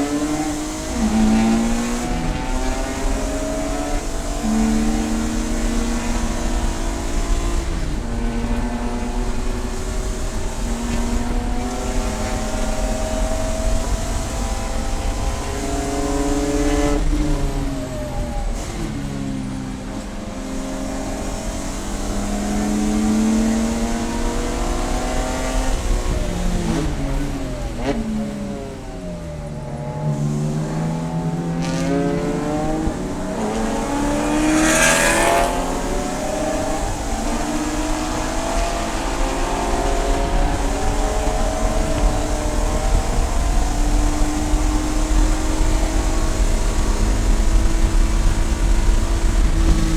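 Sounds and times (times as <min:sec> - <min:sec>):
race car engine accelerating: 0:00.0 - 0:49.9.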